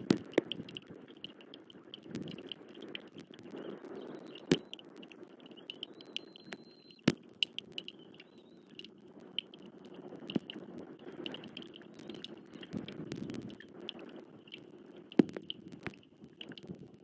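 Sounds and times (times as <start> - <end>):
raindrops ticking on camera housing: 0.0 - 17.0
steady rain: 0.0 - 17.0
faint high chirping: 0.5 - 15.1.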